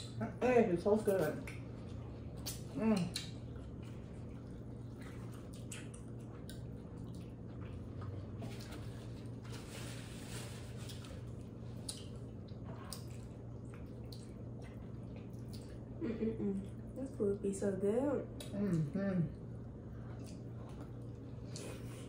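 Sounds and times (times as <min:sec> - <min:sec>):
wet squishing food chewing: 0:00.9 - 0:16.0, 0:18.3 - 0:22.0.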